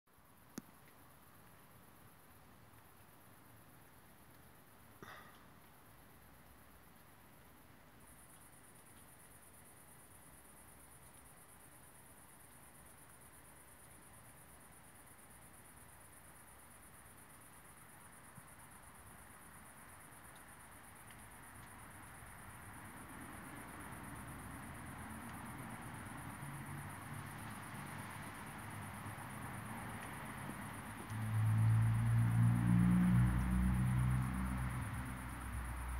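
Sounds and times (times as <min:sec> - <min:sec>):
crickets chirring: 0:00.2 - 0:35.9.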